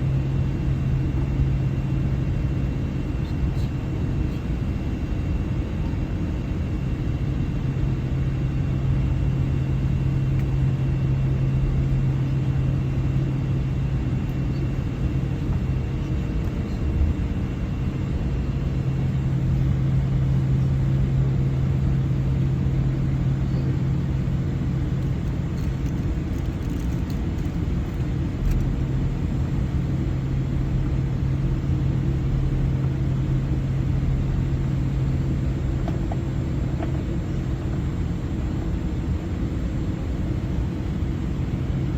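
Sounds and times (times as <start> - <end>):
jet engines inside aircraft cabin: 0.0 - 41.9.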